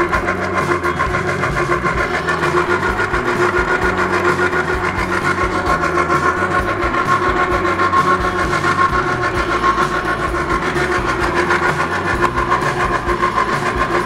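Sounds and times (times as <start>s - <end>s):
juicer motor whine: 0.0s - 14.0s.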